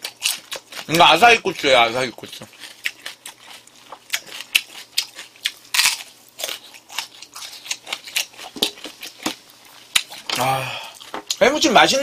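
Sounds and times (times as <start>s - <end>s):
crunching and chewing pepper: 0.0s - 11.6s.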